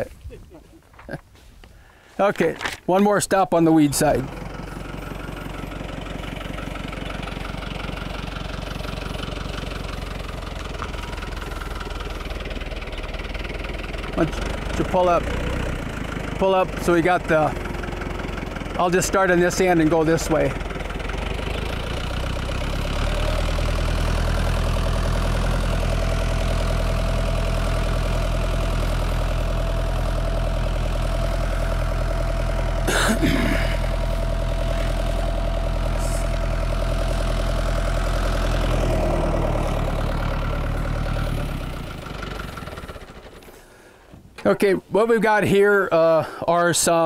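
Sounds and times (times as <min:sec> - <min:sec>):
tractor engine running: 0:00.9 - 0:47.0.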